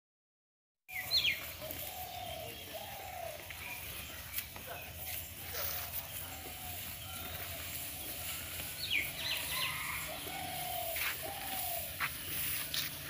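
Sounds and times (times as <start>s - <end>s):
birds calling: 0.9s - 13.0s.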